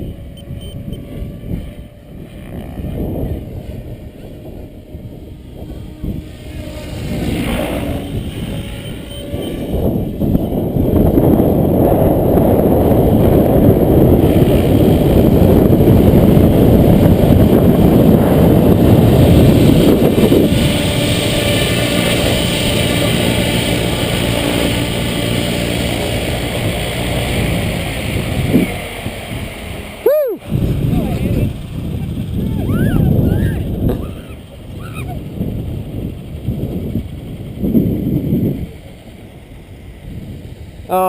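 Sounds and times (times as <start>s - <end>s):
wind buffeting microphone: 0.0s - 40.9s
electric model aircraft motor humming: 0.0s - 41.0s.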